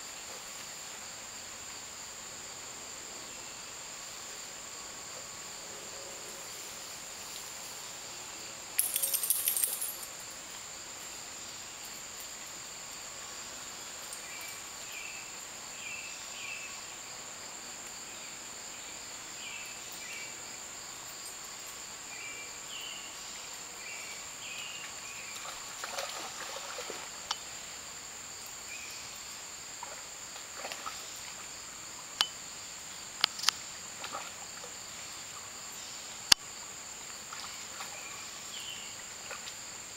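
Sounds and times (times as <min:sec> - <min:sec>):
insects singing drone: 0:00.0 - 0:39.9.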